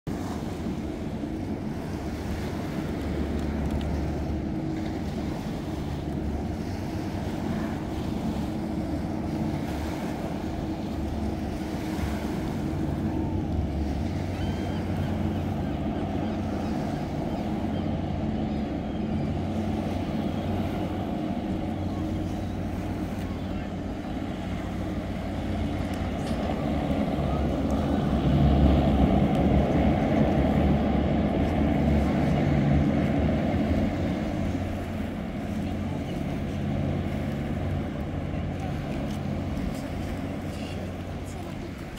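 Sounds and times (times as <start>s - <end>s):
hovercraft engine drone: 0.1s - 41.9s
wind rumbling on microphone: 0.1s - 41.9s.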